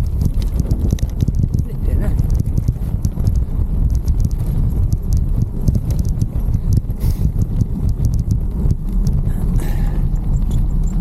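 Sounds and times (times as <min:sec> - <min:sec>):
bike knocks and rattles: 0:00.0 - 0:09.3
tyres rumbling on dirt: 0:00.0 - 0:11.0
wind on camera: 0:00.0 - 0:11.0.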